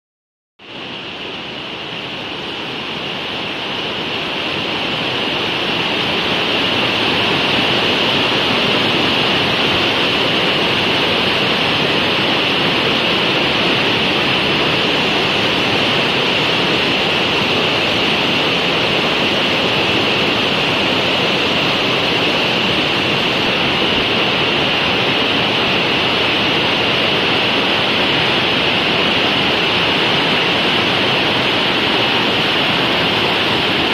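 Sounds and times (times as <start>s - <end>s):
river rushing over rocks: 0.6s - 33.9s.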